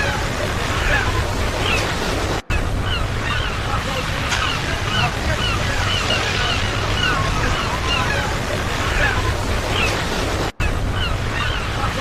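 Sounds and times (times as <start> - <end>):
ocean surf washing: 0.0 - 12.0.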